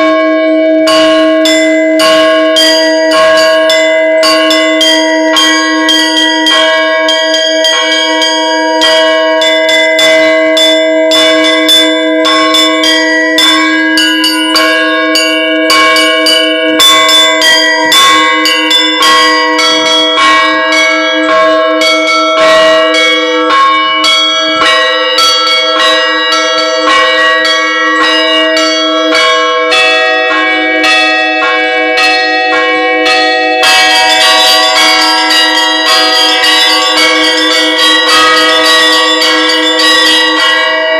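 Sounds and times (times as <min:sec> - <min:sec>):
bells ringing: 0:00.0 - 0:40.9.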